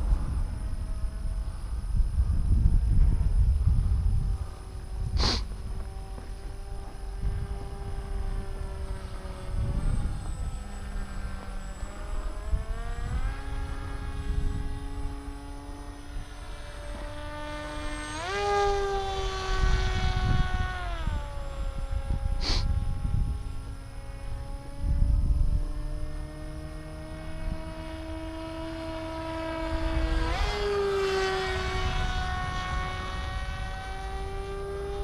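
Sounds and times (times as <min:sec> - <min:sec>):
electric motor and propeller whining: 0:00.0 - 0:35.0.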